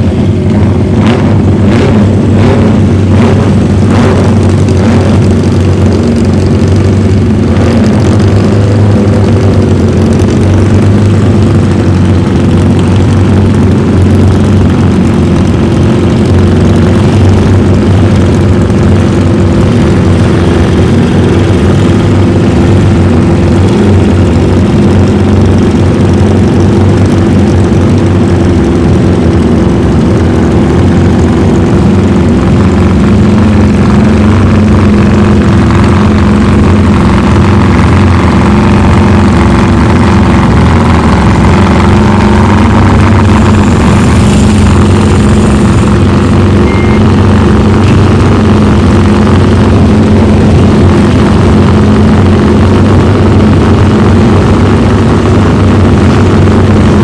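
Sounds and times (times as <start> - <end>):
motorcycle engines idling: 0.0 - 57.0.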